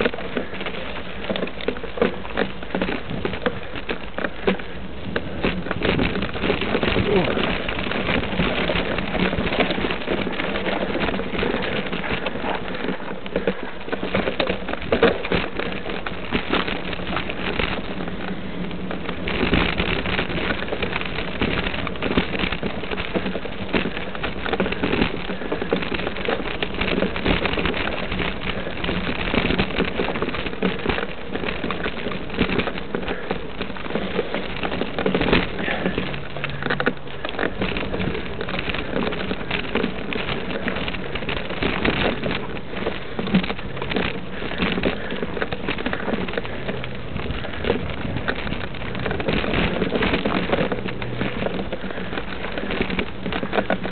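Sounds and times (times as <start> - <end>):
bike rattling: 0.0 - 53.9
bike tyres crunching over gravel: 0.0 - 53.9.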